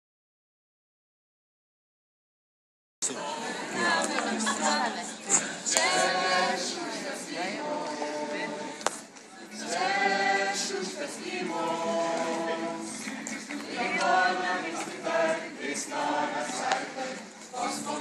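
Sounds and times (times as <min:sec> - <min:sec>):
group singing a cappella: 0:03.0 - 0:18.0.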